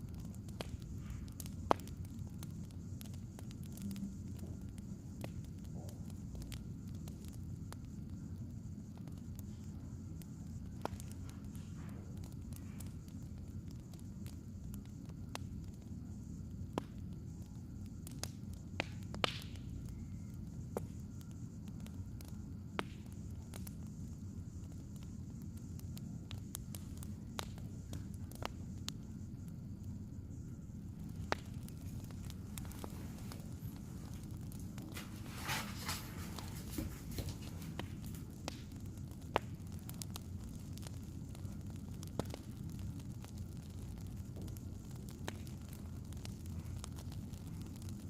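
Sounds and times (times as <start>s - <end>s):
low rumble of fire: 0.0s - 48.0s
wood fire pops and snaps: 0.0s - 48.0s.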